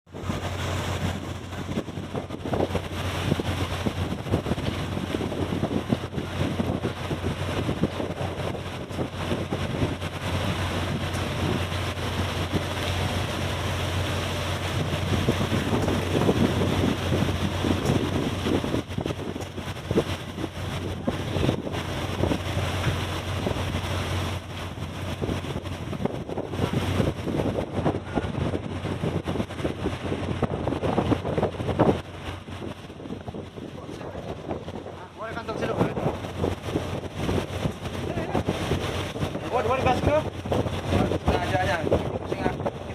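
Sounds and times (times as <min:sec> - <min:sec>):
boat engine humming: 0:00.0 - 0:42.9
wind buffeting microphone: 0:00.1 - 0:42.9.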